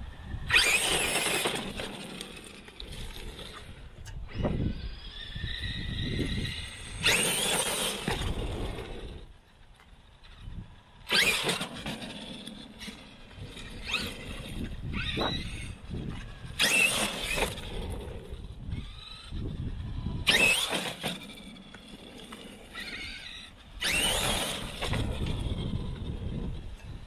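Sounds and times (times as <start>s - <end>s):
rc truck motor whining: 0.0s - 27.0s.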